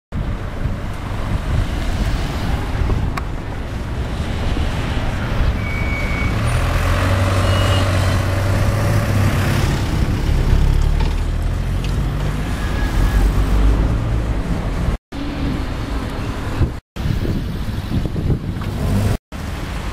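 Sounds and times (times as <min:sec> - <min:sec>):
road traffic: 0:00.1 - 0:19.9.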